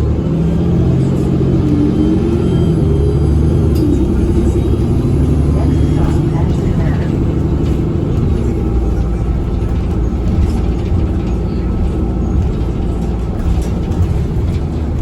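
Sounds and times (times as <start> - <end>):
bus interior hum and rumble: 0.0 - 15.0.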